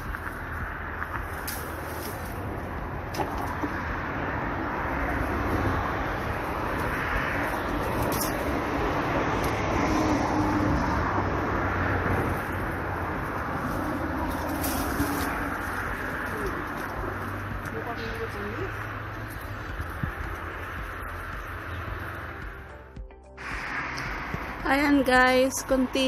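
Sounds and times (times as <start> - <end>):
steady rumble: 0.0 - 26.0.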